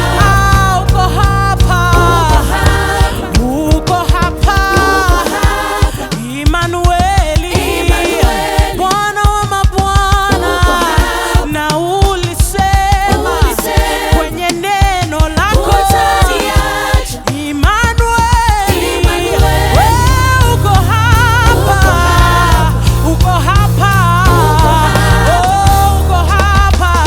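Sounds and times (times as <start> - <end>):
band with steady drum beat: 0.0 - 27.0
voices singing gospel: 0.0 - 27.0.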